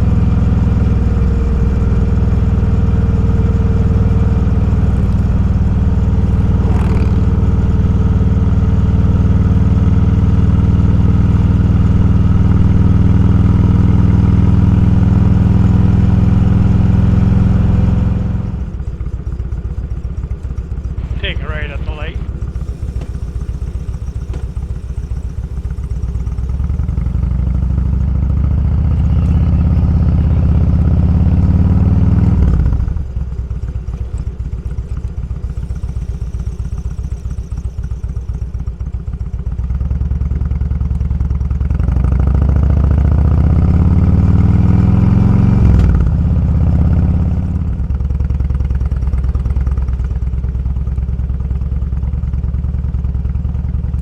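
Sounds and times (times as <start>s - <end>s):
motorcycle engine revving: 0.0s - 38.5s, 41.6s - 49.8s.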